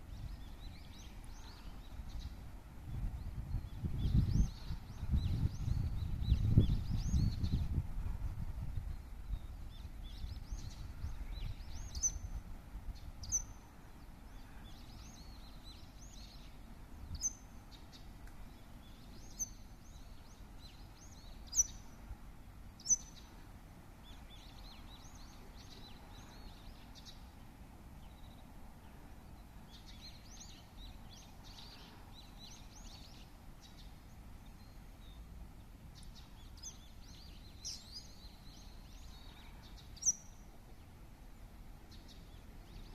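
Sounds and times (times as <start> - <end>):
small birds chirping: 0.0 - 7.8, 8.8 - 22.1, 22.7 - 42.9
low outdoor background noise: 0.0 - 42.9.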